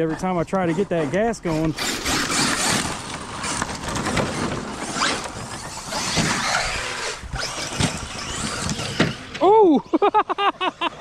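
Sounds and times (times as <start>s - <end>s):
tyres scrabbling in dirt: 0.0s - 9.5s
electric motors whining: 0.6s - 10.1s.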